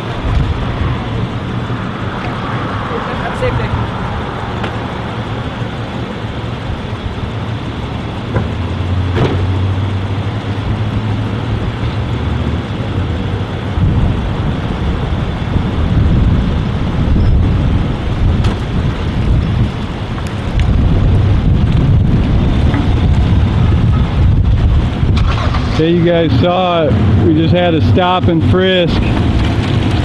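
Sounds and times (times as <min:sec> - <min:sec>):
car idling: 0:00.0 - 0:30.0
wind rumbling on microphone: 0:00.0 - 0:30.0.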